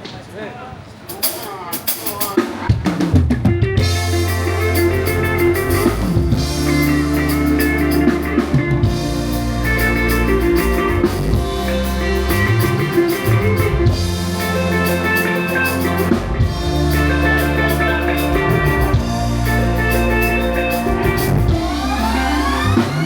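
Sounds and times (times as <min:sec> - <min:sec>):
instrumental band music: 0:01.1 - 0:23.0.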